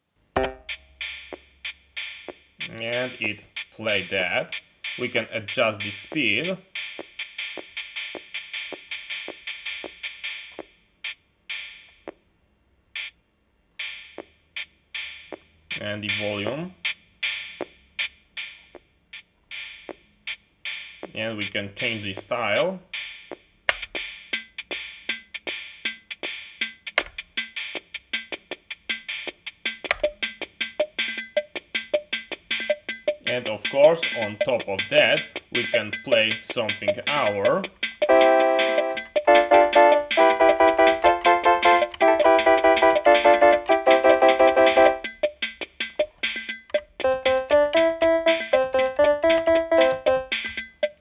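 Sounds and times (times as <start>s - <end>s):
drum machine beat: 0.4s - 10.7s, 13.8s - 18.8s, 23.0s - 51.0s.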